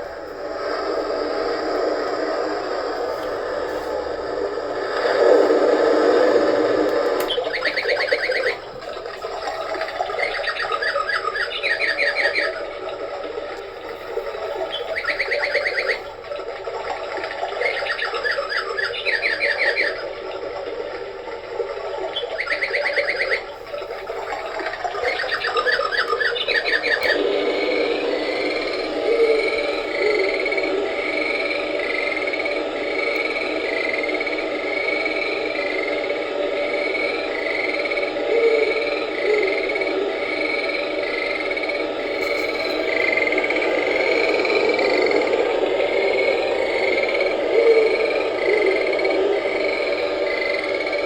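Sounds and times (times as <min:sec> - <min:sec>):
steady hiss: 0:00.0 - 0:51.0
fast bird-like trills: 0:07.0 - 0:51.0.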